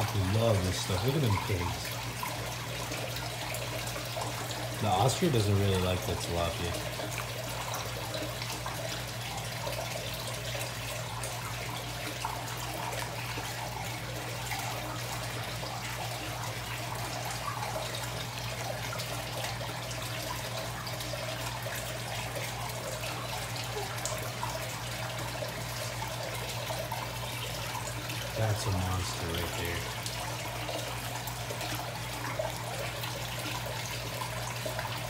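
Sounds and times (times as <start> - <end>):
trickling running water: 0.0 - 35.0.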